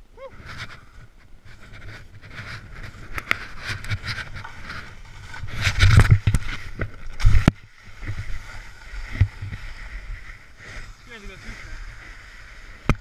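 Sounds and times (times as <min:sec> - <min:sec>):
snowboard scraping through snow: 0:00.2 - 0:13.0.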